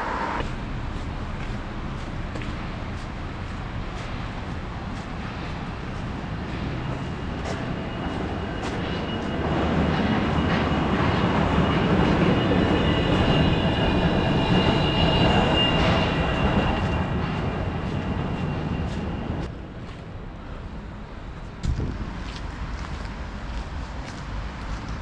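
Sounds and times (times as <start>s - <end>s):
suspended train rumble and whine: 0.0s - 25.0s.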